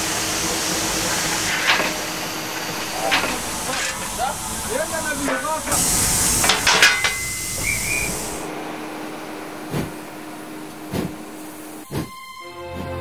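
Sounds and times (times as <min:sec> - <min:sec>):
steady hum: 0:00.0 - 0:12.4
steam locomotive venting steam: 0:00.0 - 0:13.0.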